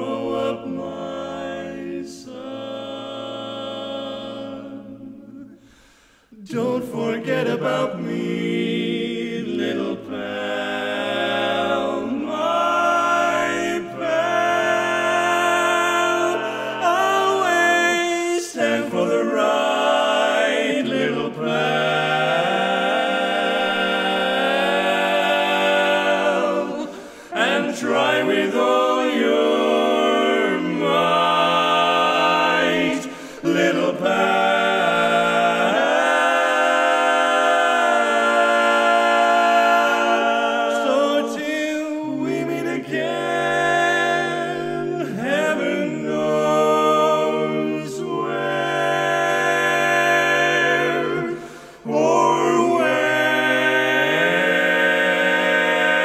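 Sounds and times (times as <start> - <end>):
quartet singing a cappella: 0.0 - 56.0.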